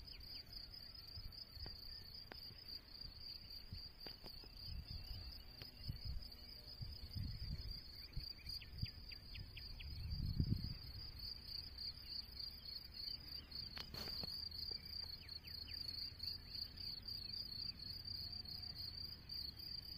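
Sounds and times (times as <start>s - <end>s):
crickets chirring: 0.0s - 19.9s.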